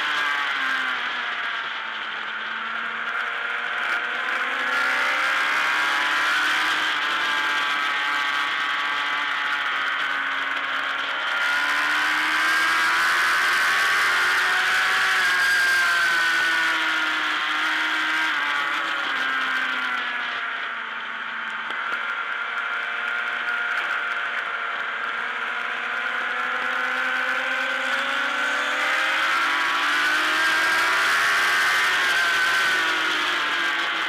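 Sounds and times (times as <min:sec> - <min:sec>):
racing motorcycle engine: 0:00.0 - 0:34.0.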